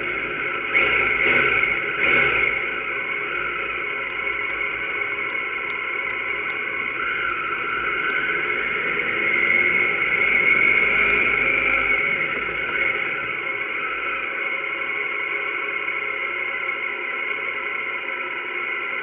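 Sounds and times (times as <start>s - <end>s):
motorcycle engine: 0.0s - 19.0s.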